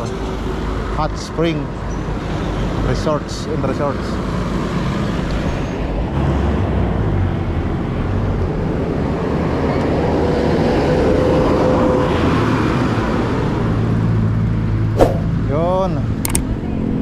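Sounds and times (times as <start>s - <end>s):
highway traffic rumble: 0.0s - 17.0s
vehicle engine hum: 0.0s - 17.0s.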